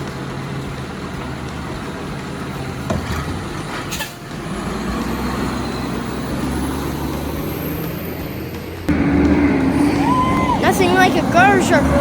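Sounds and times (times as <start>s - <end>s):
garbage truck diesel engine: 0.0s - 12.0s.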